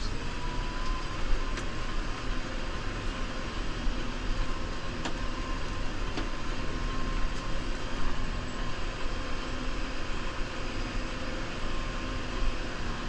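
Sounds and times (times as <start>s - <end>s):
faint steady whine: 0.0s - 13.0s
tractor diesel engine running: 0.0s - 13.0s.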